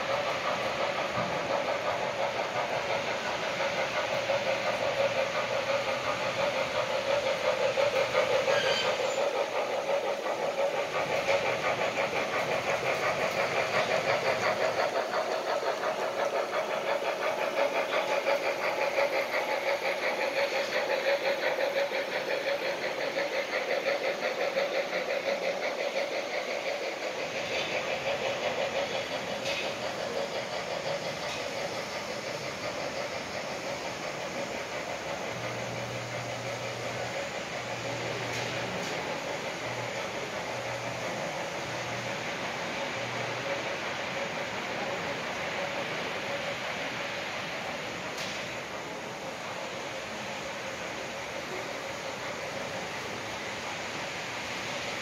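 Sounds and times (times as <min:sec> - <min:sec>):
model train wheels clattering on rails: 0:00.0 - 0:55.0.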